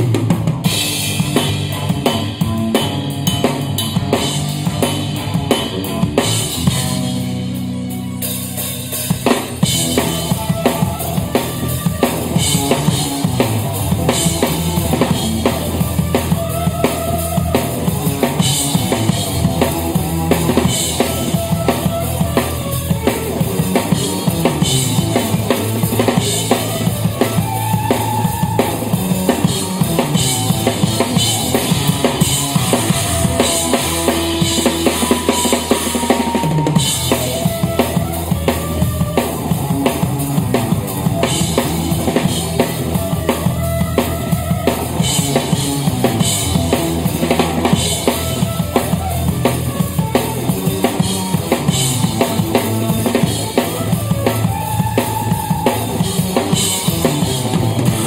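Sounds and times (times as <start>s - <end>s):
drum kit played loudly: 0.0s - 58.0s
jazz-rock band playing: 0.0s - 58.0s.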